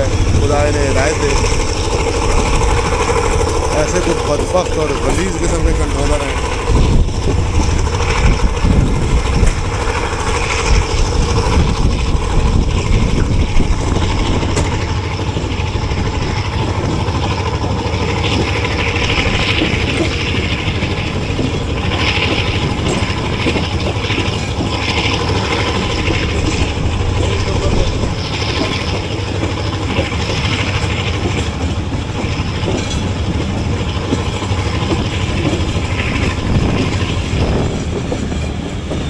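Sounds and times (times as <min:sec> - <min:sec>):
train rumbling: 0:00.0 - 0:39.0
wheels rattling on track: 0:00.0 - 0:39.0.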